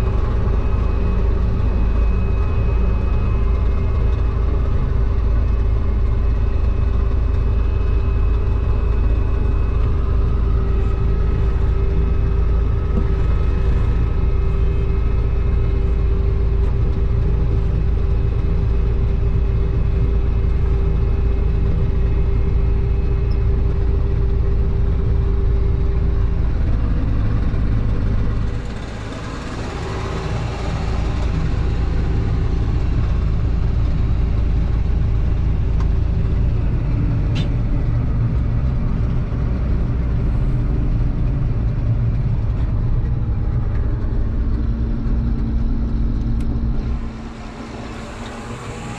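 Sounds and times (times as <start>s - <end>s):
combine harvester running: 0.0s - 48.9s
constant whine: 0.0s - 48.9s.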